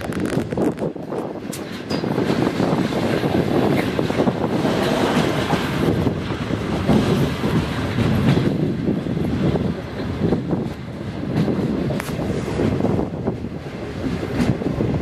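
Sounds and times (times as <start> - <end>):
clickety-clack of wheels: 0.0 - 15.0
train wheels rumbling on rail: 0.0 - 15.0.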